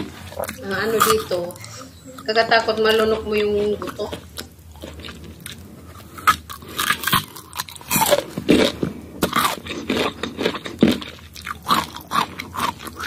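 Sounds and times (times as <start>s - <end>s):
person chewing and smacking fruit: 0.0s - 13.0s.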